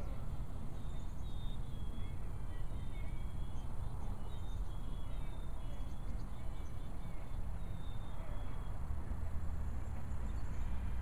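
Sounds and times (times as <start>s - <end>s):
birds chirping: 0.0s - 8.9s.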